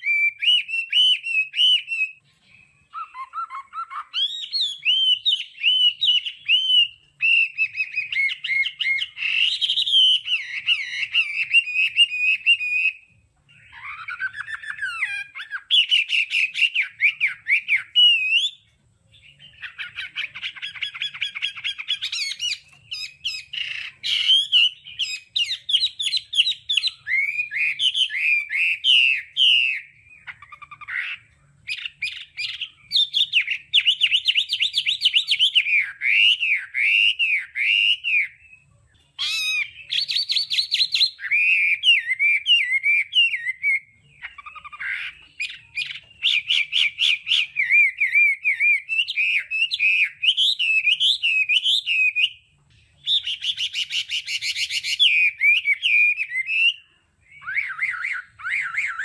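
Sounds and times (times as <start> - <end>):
bird singing whistled trills: 0.0 - 59.0.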